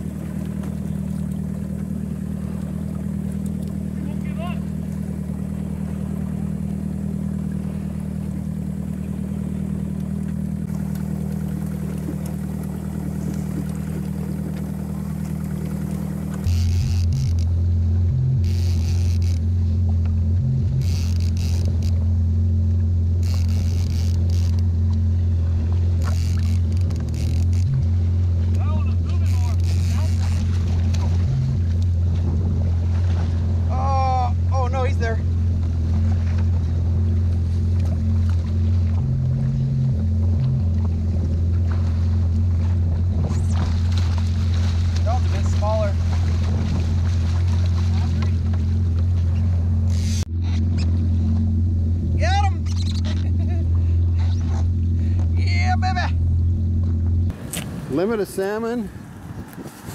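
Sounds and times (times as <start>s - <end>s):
jet ski engine droning: 0.0s - 59.9s
water splashing along hull: 0.0s - 59.9s.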